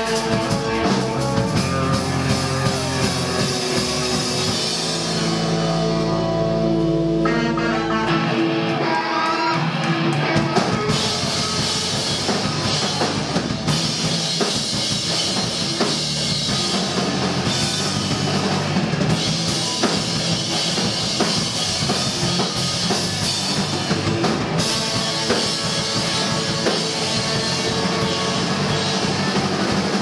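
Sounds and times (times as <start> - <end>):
drum kit pounding: 0.0 - 7.1, 9.5 - 30.0
electric guitar: 0.0 - 30.0
rock band playing: 0.0 - 30.0.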